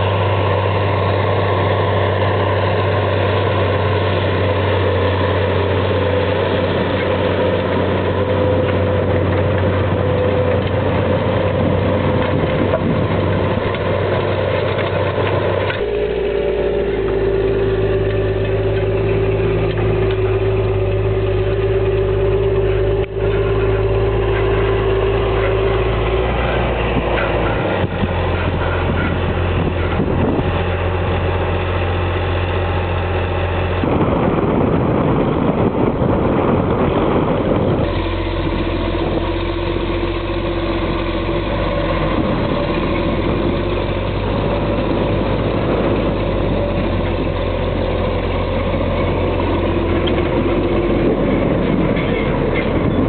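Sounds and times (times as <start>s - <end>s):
steady whine: 0.0s - 53.0s
tractor diesel engine running: 0.0s - 53.0s.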